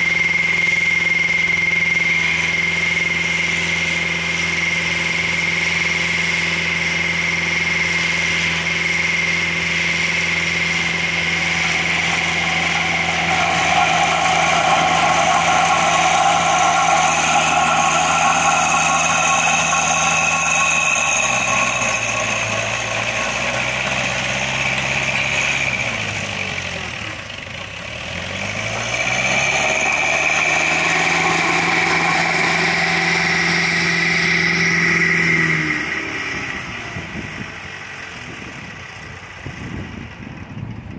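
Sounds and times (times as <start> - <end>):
high whine: 0.0 - 27.3, 28.5 - 38.2
trencher engine running: 0.0 - 40.6.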